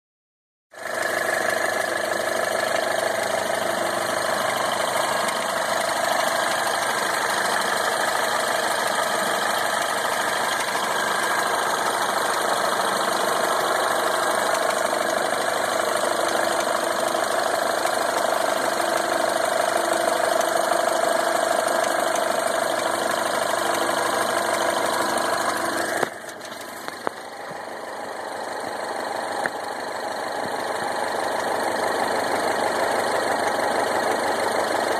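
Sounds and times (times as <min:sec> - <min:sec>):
petrol engine with diesel-like clatter: 0:00.8 - 0:34.9.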